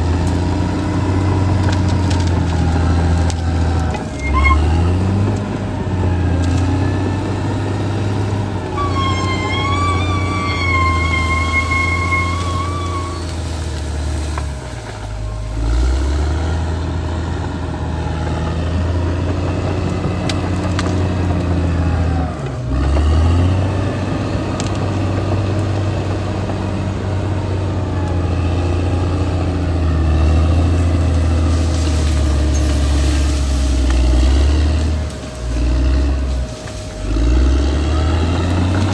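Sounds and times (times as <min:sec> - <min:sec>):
bulldozer diesel engine drone: 0:00.0 - 0:38.9.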